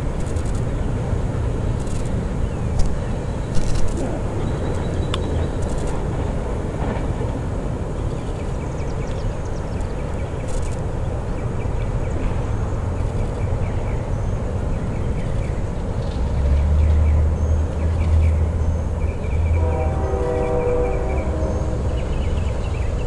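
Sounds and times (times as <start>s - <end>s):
diesel locomotive engine rumble: 0.0s - 23.0s.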